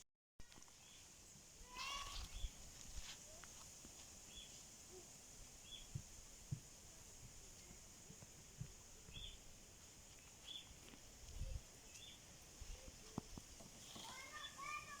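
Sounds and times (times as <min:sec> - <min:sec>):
steady high hiss: 0:00.4 - 0:15.0.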